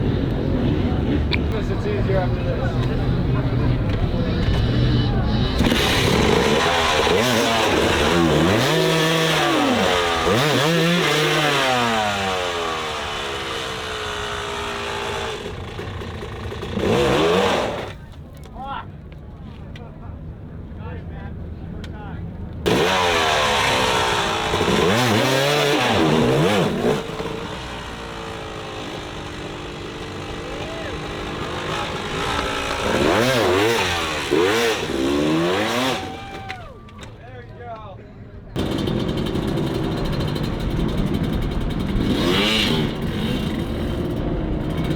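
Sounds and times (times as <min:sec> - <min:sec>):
motorcycle engine revving: 0:00.0 - 0:18.1, 0:22.6 - 0:36.4, 0:38.6 - 0:44.9.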